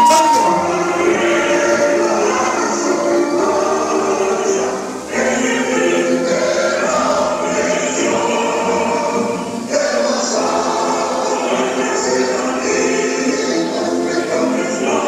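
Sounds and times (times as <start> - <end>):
choir singing with music: 0.0 - 15.0.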